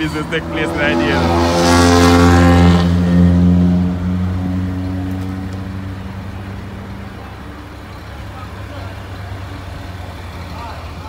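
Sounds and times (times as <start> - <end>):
vehicle engine moving away: 0.0 - 11.0.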